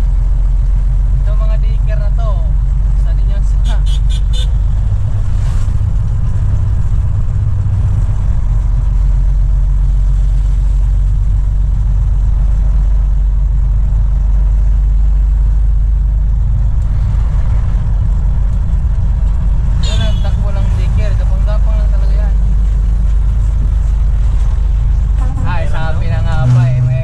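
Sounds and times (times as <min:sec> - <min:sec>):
truck diesel engine droning: 0:00.0 - 0:27.0.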